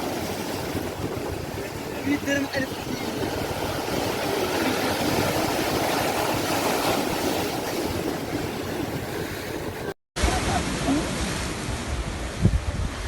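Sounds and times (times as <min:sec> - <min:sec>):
sea waves breaking: 0:00.0 - 0:13.0.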